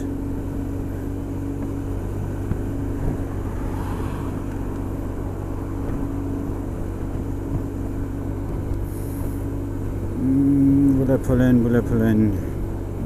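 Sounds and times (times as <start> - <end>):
scooter engine droning: 0.0 - 13.0
wind and road noise: 0.0 - 13.0.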